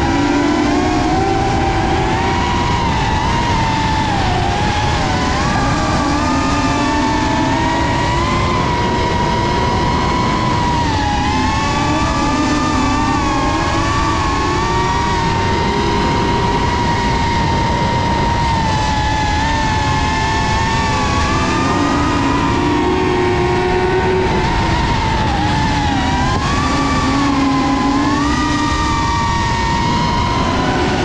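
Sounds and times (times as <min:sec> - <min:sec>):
drone motors whining: 0:00.0 - 0:31.0
race car engines running hard: 0:00.0 - 0:31.0.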